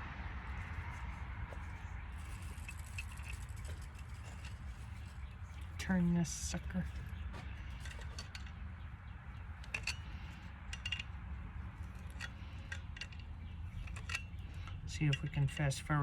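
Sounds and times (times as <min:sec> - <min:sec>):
steady low hum: 0:00.0 - 0:16.0
hand tools clicking and scraping metal: 0:00.5 - 0:16.0.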